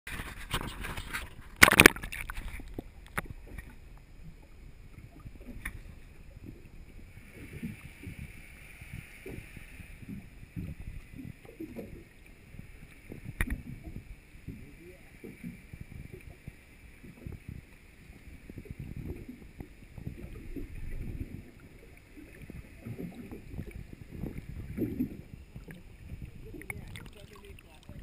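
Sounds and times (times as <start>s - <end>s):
water splashing over camera: 0.1s - 28.0s.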